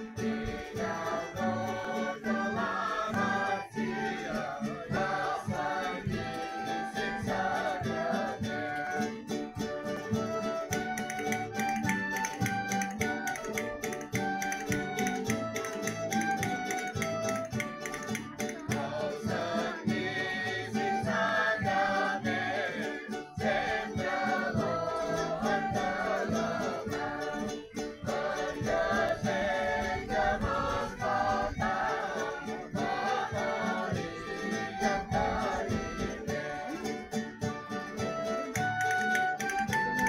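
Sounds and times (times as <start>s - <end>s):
folk string band playing: 0.0s - 40.0s
group singing together: 0.0s - 40.0s.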